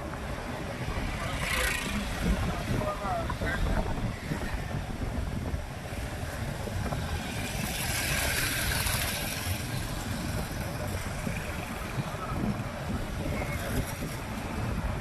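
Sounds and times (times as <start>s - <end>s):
road rumble from moving bike: 0.0s - 15.0s
street traffic: 0.0s - 15.0s
wind buffeting microphone: 0.0s - 15.0s.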